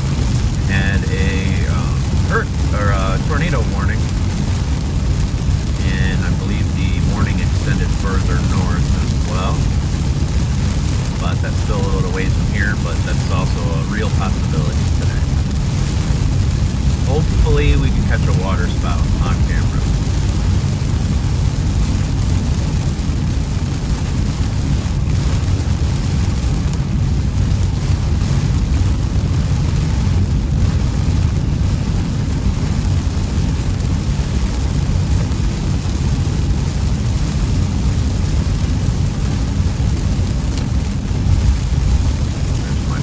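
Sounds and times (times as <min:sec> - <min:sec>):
rain hissing: 0:00.0 - 0:43.0
road and tyre noise: 0:00.0 - 0:43.0.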